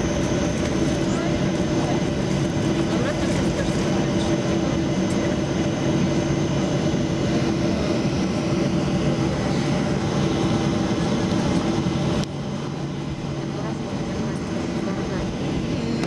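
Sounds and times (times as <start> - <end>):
jet engines running in cabin: 0.0 - 16.0.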